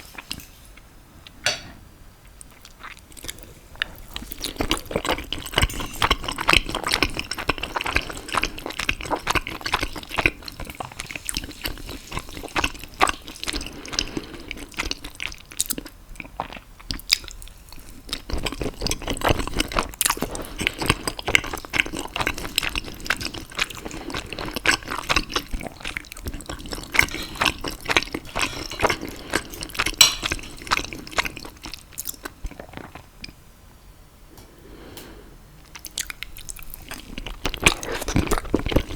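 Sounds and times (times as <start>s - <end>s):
person chewing food: 2.2s - 33.4s, 35.6s - 38.9s.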